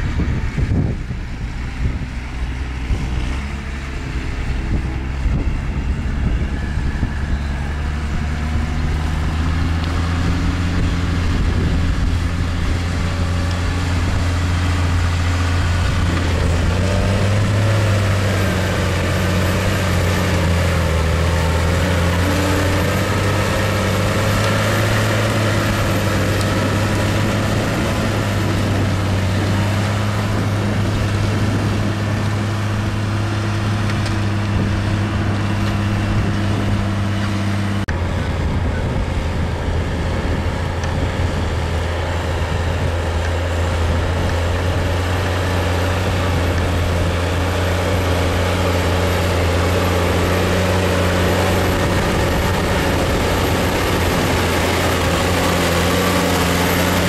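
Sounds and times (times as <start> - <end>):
tractor diesel engine: 0.0 - 57.0.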